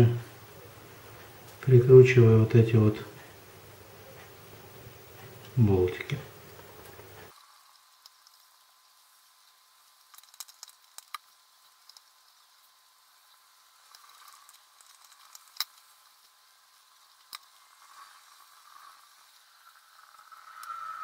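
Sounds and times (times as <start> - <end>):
light hiss: 0.0 - 21.0.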